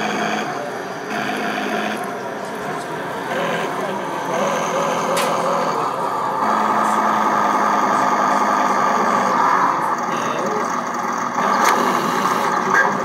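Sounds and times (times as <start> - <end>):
model tank engine drone: 0.0 - 13.0.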